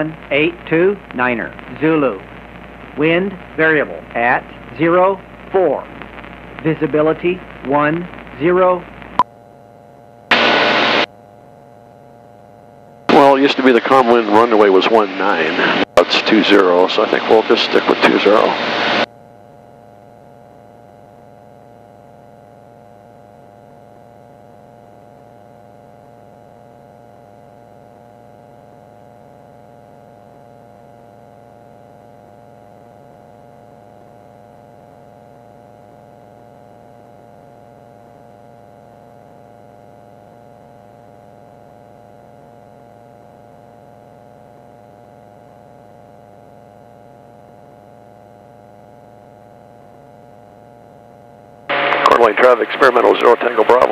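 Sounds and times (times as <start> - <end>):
steady electrical hum: 0.0 - 53.9.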